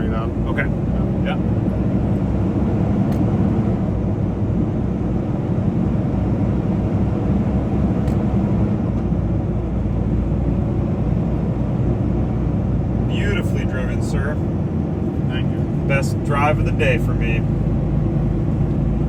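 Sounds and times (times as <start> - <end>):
diesel engine rumble in truck cab: 0.0 - 19.0
road noise: 0.0 - 19.0.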